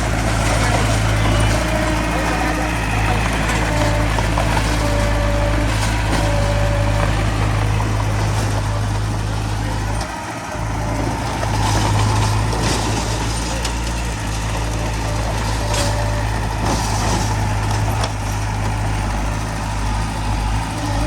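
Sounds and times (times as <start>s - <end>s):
heavy diesel machinery droning: 0.0s - 21.0s.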